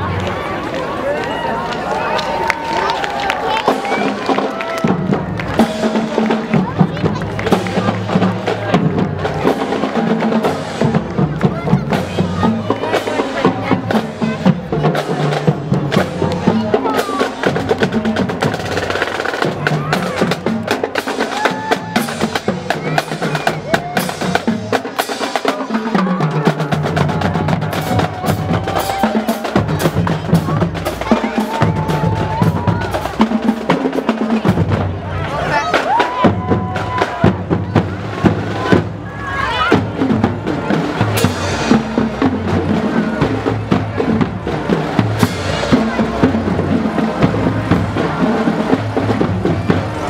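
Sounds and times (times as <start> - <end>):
drumline playing cadence: 1.7 - 50.0.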